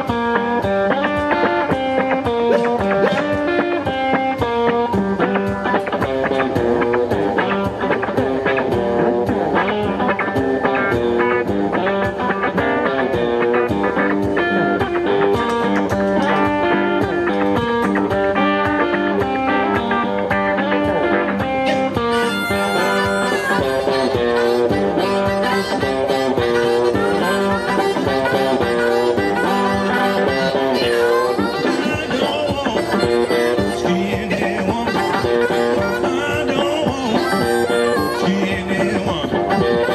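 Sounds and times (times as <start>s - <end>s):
drum beat: 0.0s - 39.9s
electric guitars playing blues: 0.0s - 39.9s
harmonica: 0.0s - 39.9s.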